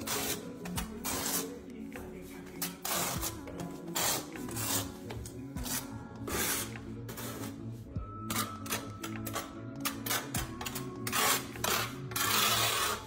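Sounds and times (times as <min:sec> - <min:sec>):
trowel scraping tile adhesive: 0:00.0 - 0:01.7, 0:02.6 - 0:07.6, 0:08.3 - 0:13.0.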